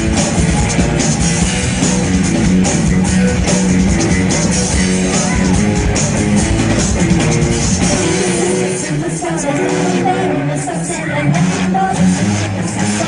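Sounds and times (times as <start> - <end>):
electric guitar: 0.0 - 13.0
live pop-rock band playing: 0.0 - 13.0.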